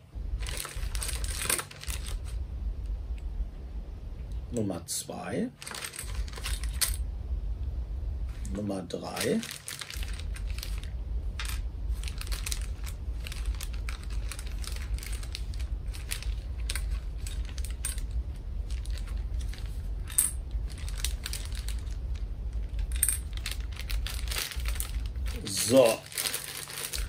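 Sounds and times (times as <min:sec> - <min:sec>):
plastic bag rustling: 0:00.0 - 0:02.4, 0:05.6 - 0:07.0, 0:08.3 - 0:27.0
steady low hum: 0:00.0 - 0:27.0.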